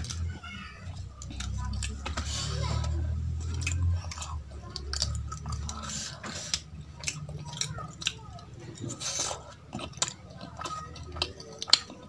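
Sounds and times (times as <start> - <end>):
close-up chewing with wet mouth clicks: 0.9 - 12.0.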